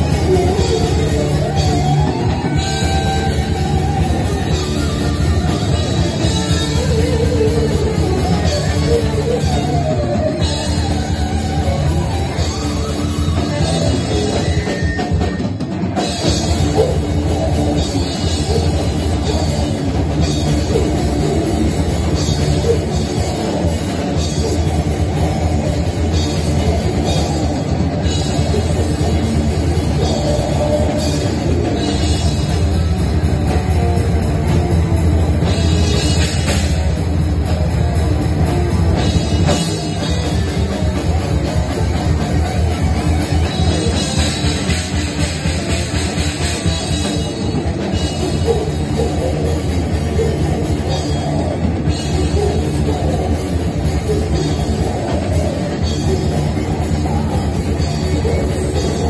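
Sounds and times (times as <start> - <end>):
live heavy metal band: 0.0 - 59.0.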